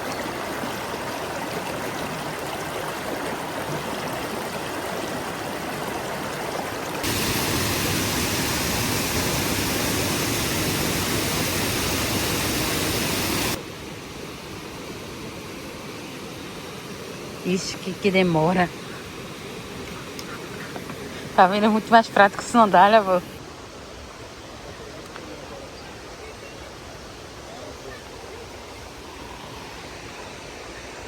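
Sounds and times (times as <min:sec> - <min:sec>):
waterfall and stream rushing: 0:00.0 - 0:24.9, 0:25.5 - 0:31.0.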